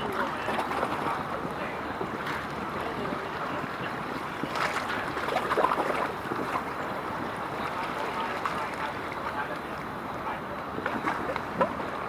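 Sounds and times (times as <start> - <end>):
steady outdoor rumble: 0.0 - 12.0.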